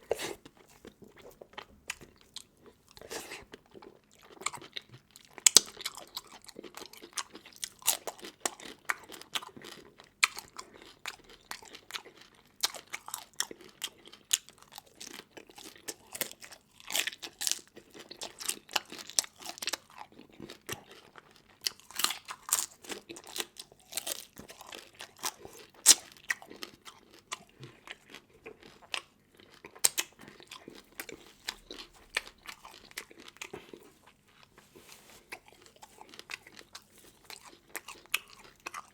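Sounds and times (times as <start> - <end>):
person chewing with crunches: 0.0 - 38.9.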